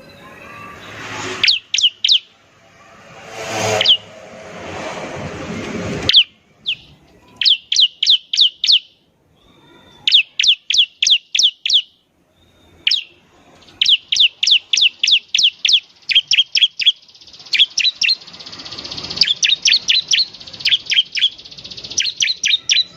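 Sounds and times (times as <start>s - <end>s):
bird singing high whistled notes: 0.0s - 2.4s, 3.6s - 4.1s, 6.1s - 9.0s, 10.1s - 22.9s.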